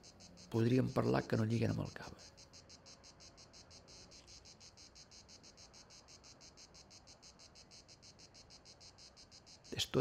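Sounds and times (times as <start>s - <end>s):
insect chirping: 0.0s - 10.0s.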